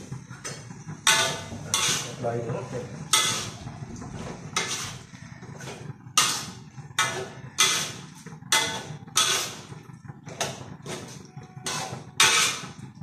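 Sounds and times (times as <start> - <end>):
metal spatula scraping a wok: 0.0 - 12.9.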